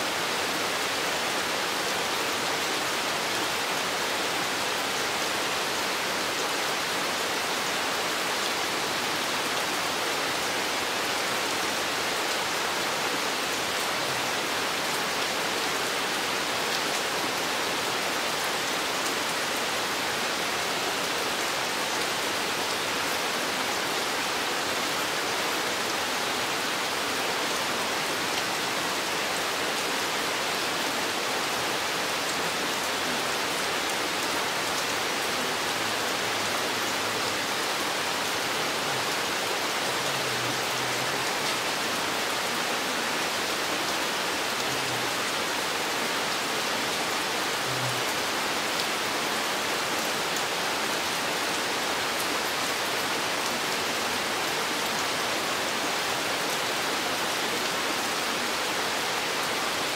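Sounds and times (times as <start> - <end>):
steady rain in a forest: 0.0 - 59.9.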